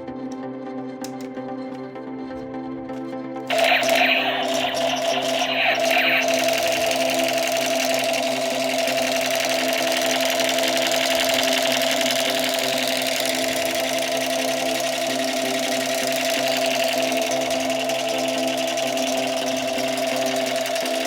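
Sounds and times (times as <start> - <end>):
electronic toy tones: 3.5 - 21.0
toy motor rattling: 3.5 - 21.0.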